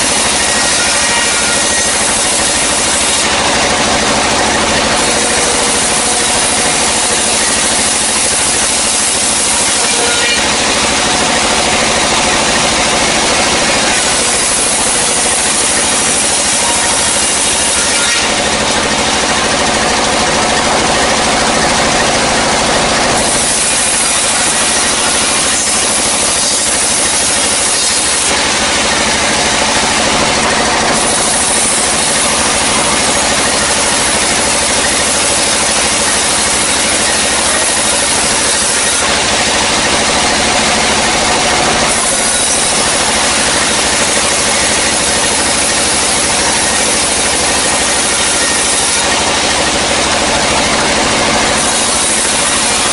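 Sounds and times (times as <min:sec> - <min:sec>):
band saw machine hum: 0:00.0 - 0:52.9
saw blade rasping through wood: 0:00.0 - 0:52.9.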